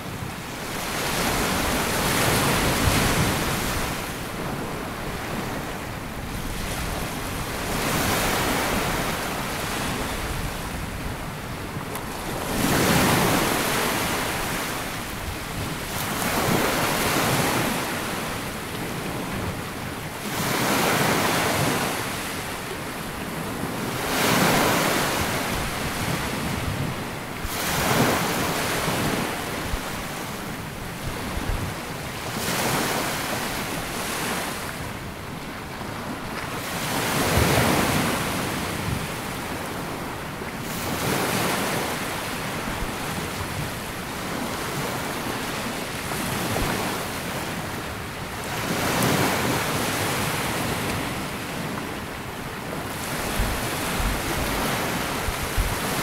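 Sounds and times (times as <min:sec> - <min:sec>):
waves washing up a beach: 0:00.0 - 0:56.0
wind rumbling on microphone: 0:00.0 - 0:56.0.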